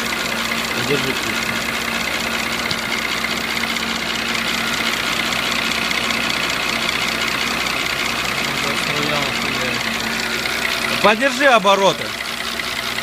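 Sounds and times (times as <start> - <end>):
car engine idling: 0.0 - 13.0
fast even engine knocking: 0.0 - 13.0.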